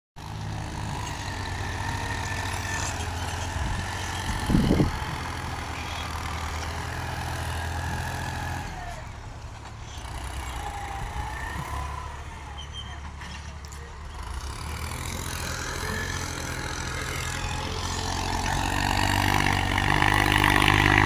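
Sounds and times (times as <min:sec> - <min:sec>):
tractor diesel engine running: 0:00.2 - 0:21.0.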